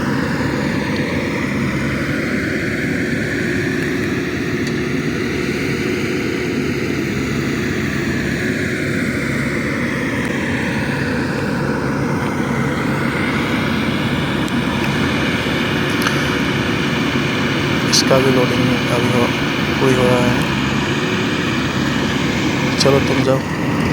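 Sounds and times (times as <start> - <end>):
diesel engine drone: 0.0 - 23.9
high whine rising and falling: 0.0 - 23.9.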